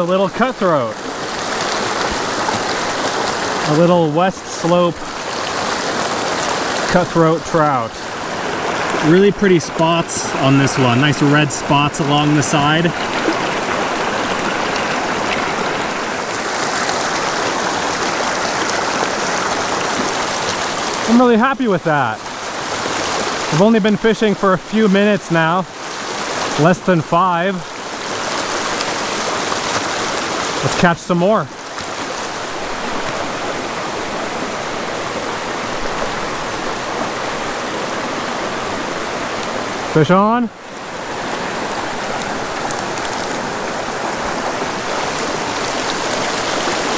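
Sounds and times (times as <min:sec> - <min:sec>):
creek water rushing over stones: 0:00.0 - 0:46.9.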